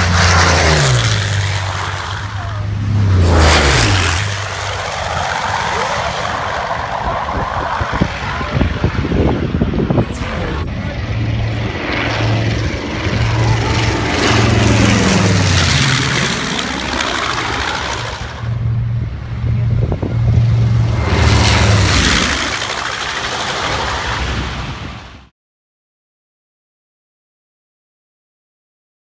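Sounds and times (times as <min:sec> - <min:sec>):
propeller plane passing low: 0:00.0 - 0:25.3.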